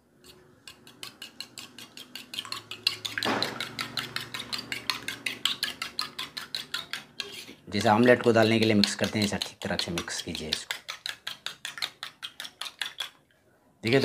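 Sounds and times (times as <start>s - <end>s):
fork beating eggs in metal bowl: 0.0s - 13.2s.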